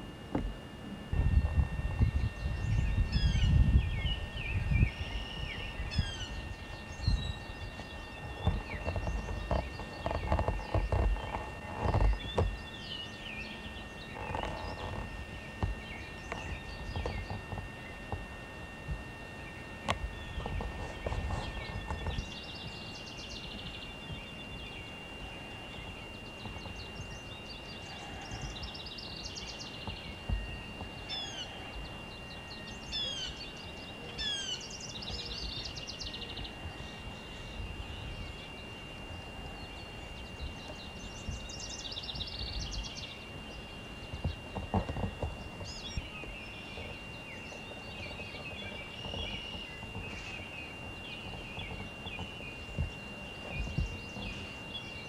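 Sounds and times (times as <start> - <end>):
songbirds chirping and trilling: 0.0 - 55.0
downward-sweeping bird calls: 1.2 - 55.0.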